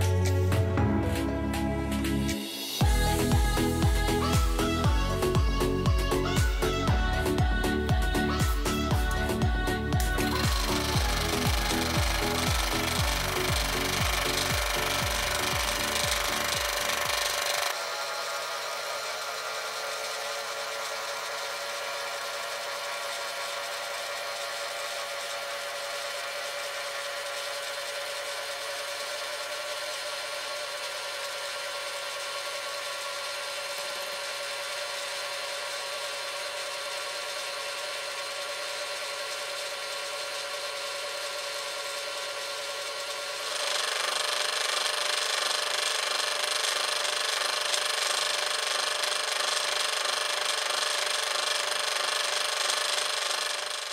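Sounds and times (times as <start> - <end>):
compressor pump humming: 0.0 - 53.9.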